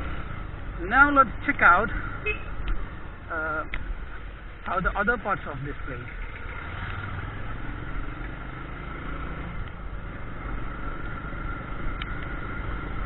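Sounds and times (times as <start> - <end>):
motorcycle running: 0.0 - 13.0.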